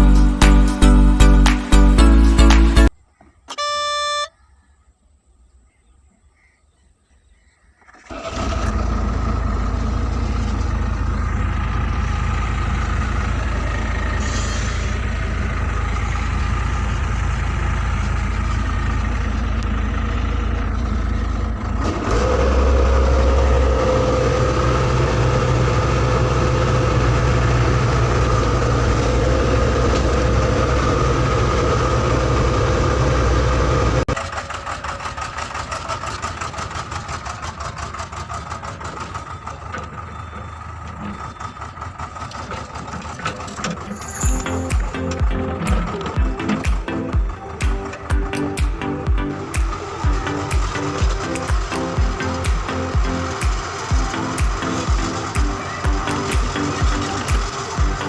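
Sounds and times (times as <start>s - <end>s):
heavy diesel engine running: 8.0s - 58.0s.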